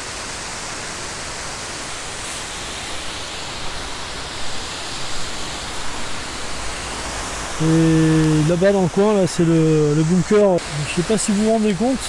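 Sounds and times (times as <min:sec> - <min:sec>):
river rushing over rocks: 0:00.0 - 0:12.0
waterfall spilling: 0:00.0 - 0:12.0.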